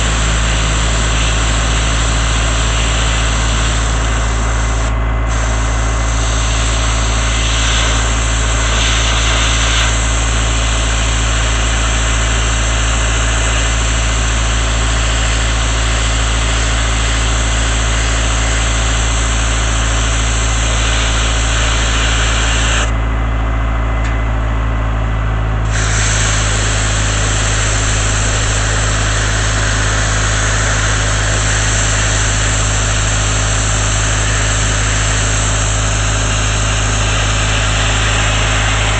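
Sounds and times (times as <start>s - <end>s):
sandblasting nozzle hissing: 0.0s - 22.9s, 25.7s - 38.9s
air compressor engine running: 0.0s - 38.9s.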